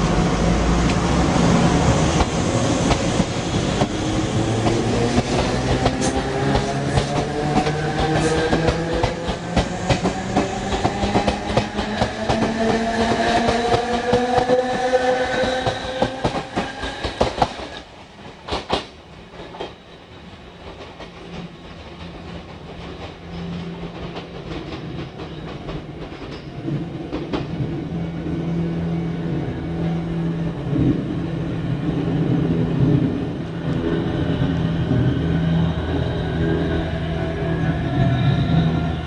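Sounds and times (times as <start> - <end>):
train motor hum and wheel noise: 0.0 - 39.0.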